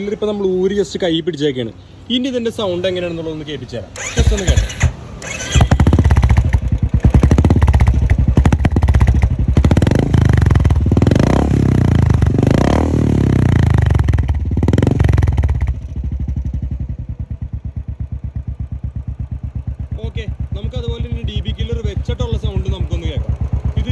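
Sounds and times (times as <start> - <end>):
motorcycle engine revving: 4.0 - 23.9
motorcycle idling: 4.0 - 23.9.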